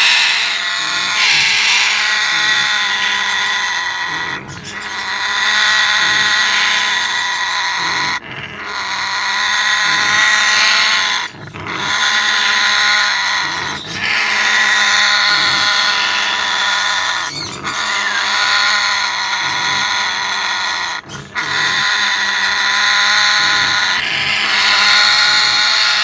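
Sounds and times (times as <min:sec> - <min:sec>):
parrot growling: 0:00.0 - 0:26.0.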